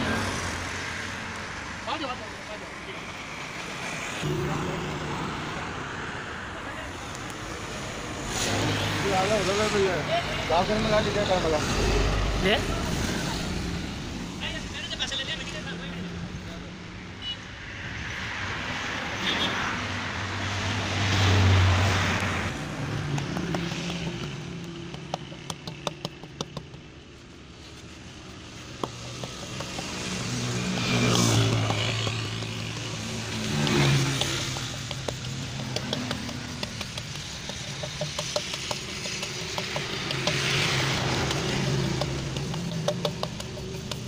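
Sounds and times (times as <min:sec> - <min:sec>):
passing motor vehicles: 0:00.0 - 0:44.0.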